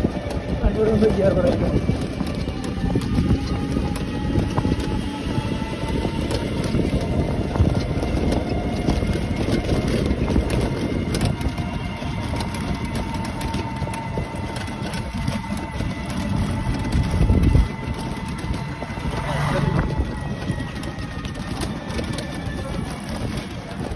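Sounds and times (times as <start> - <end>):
motorcycle engine and road noise: 0.0 - 23.9
wind rumble on microphone: 0.0 - 23.9.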